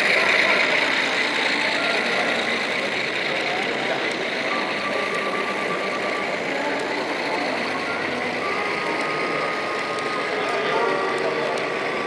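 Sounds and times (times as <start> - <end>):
crowd talking in a hall: 0.0 - 12.0.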